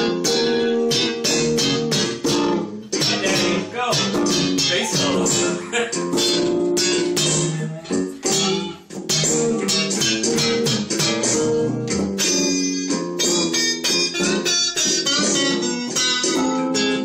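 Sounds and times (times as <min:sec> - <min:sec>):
blues guitars playing: 0:00.0 - 0:17.0.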